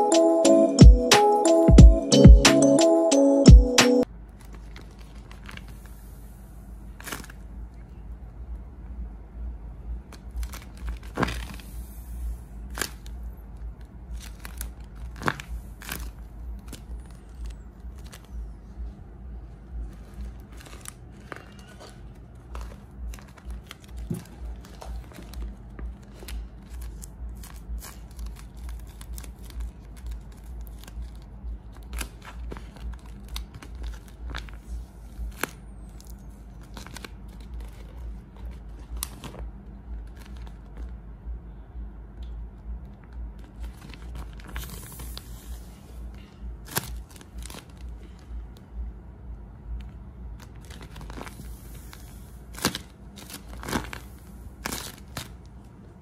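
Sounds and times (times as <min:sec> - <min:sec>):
low steady hum: 0:00.0 - 0:56.0
paper crinkling and crackling: 0:04.2 - 0:06.2, 0:06.8 - 0:08.3, 0:10.0 - 0:41.1, 0:42.8 - 0:48.7, 0:49.8 - 0:56.0.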